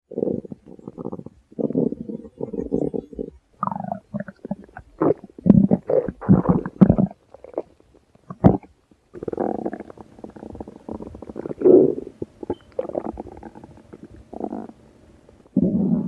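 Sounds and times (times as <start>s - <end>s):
stomach growling: 0.1s - 14.8s, 15.4s - 16.0s.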